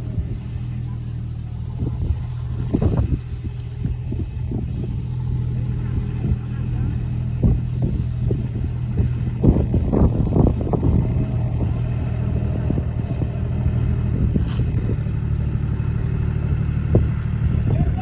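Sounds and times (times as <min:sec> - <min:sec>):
tractor engine under load: 0:00.0 - 0:18.0.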